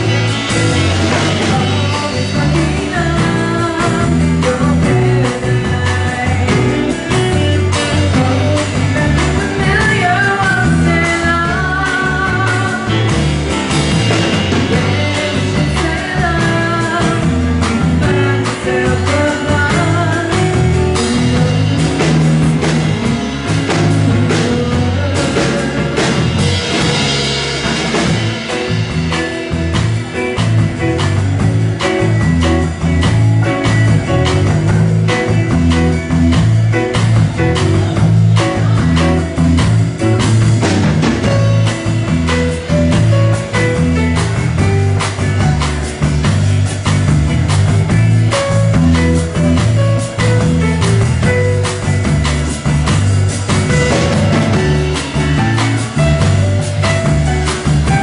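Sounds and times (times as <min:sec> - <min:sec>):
bass: 0:00.0 - 0:58.0
drum kit: 0:00.0 - 0:58.0
grand piano: 0:00.0 - 0:58.0
guitar: 0:00.0 - 0:58.0.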